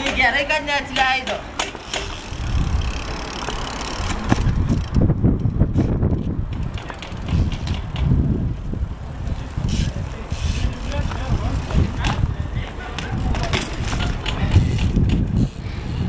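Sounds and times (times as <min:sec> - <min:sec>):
bike wheels rolling rumble: 0:00.0 - 0:16.0.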